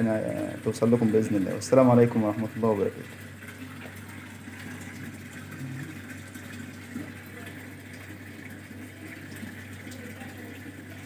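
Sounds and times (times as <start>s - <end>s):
washing machine humming: 0.0s - 11.0s
water running into tub: 0.0s - 11.0s.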